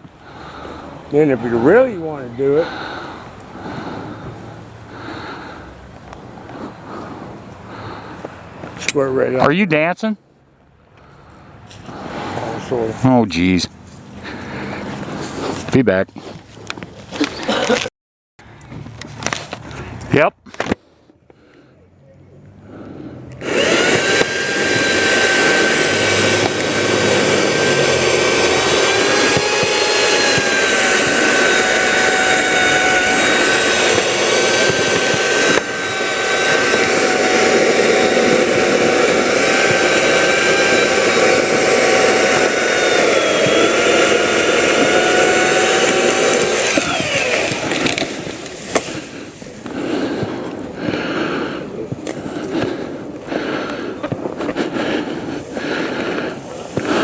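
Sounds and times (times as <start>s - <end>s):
chainsaw cutting limbs: 0.0s - 9.4s, 11.0s - 15.8s, 16.4s - 17.9s, 22.8s - 57.0s.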